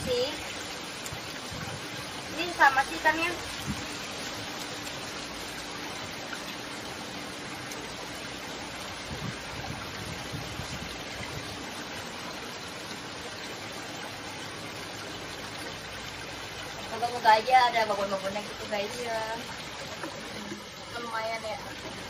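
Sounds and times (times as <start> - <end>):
water rushing in a stream: 0.0 - 22.0.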